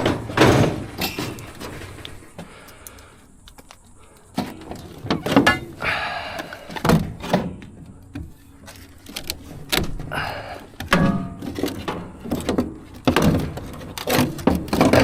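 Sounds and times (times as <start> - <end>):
scrap metal clanking: 0.0 - 2.5, 4.4 - 15.0.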